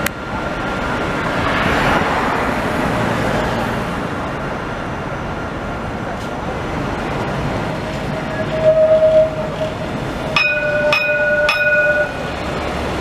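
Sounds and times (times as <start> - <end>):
road traffic: 0.0 - 13.0
tram rolling past: 0.0 - 13.0.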